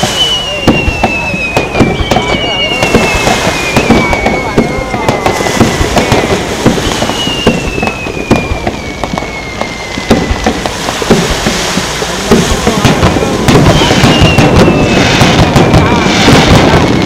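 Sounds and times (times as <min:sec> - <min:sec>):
descending firework whistle: 0:00.0 - 0:17.0
fireworks popping and crackling: 0:00.0 - 0:17.0.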